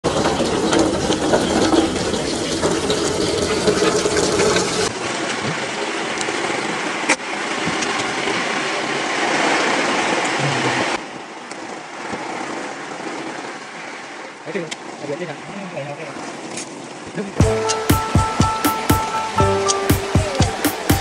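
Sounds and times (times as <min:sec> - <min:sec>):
water rushing and pattering: 0:00.1 - 0:21.0.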